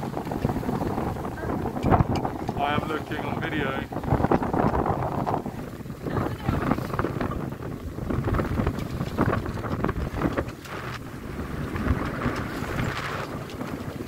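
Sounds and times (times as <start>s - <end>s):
water rushing along boat hull: 0.0s - 14.0s
wind buffeting microphone: 0.0s - 14.0s.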